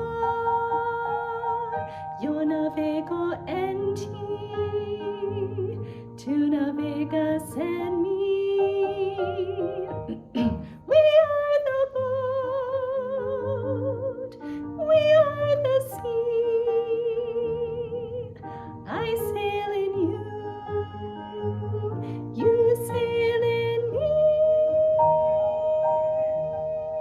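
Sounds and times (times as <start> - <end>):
woman singing with vibrato: 0.0 - 18.3, 18.9 - 27.0.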